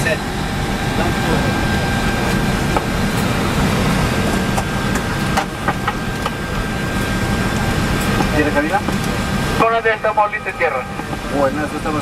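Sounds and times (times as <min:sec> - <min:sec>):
air conditioning and ventilation: 0:00.0 - 0:12.0.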